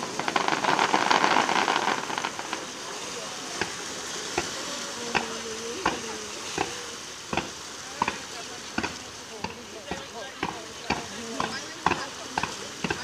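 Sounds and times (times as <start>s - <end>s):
firework sharp pops: 0.0s - 3.0s, 3.6s - 13.0s
firework hissing and crackling: 0.0s - 13.0s.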